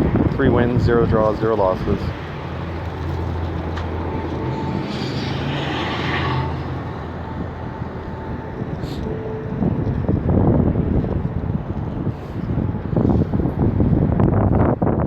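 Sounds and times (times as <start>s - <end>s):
low engine hum: 0.0s - 15.0s
rushing noise: 0.0s - 15.0s.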